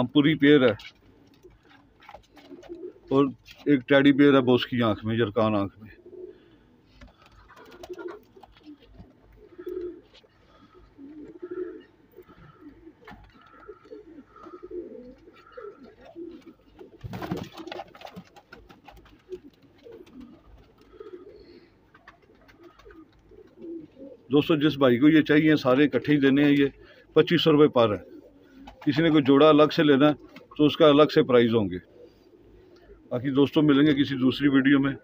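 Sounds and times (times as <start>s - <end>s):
pigeons cooing: 0.0s - 3.7s, 5.7s - 35.0s.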